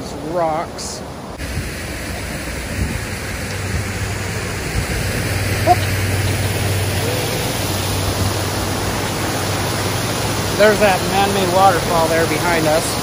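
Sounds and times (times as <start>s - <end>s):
water pouring over dam: 1.4s - 13.0s.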